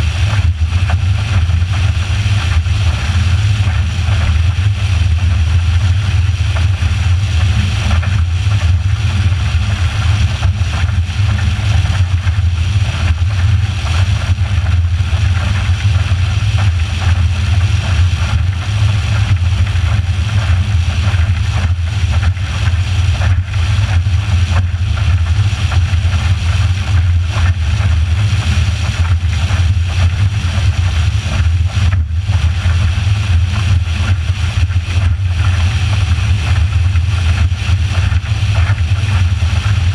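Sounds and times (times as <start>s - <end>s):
motorboat engine drone: 0.0s - 39.9s.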